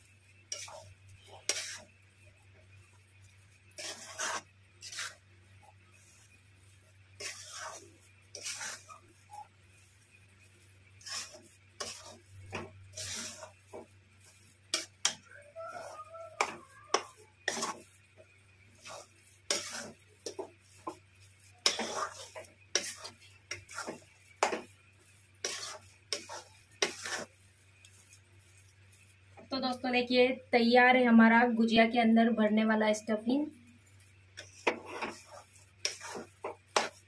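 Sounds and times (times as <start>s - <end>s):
metal spatula scraping a pan: 0.2s - 2.0s, 2.6s - 29.2s, 34.0s - 37.0s.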